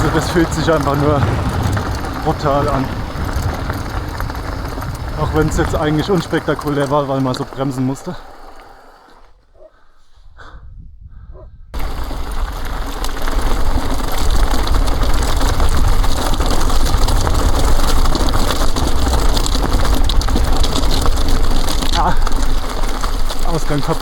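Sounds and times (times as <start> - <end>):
wind rushing over microphone: 0.0 - 8.3, 10.1 - 24.0
bike rattling: 0.0 - 9.7, 11.8 - 24.0.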